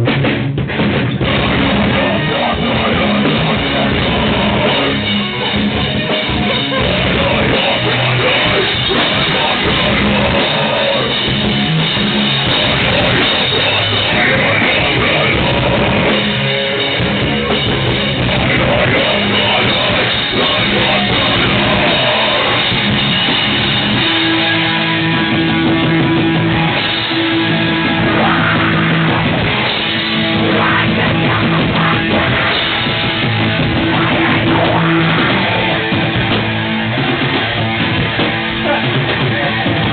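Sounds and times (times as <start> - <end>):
drum kit: 0.0 - 39.9
electric guitar: 0.0 - 39.9
rock band playing: 0.0 - 39.9.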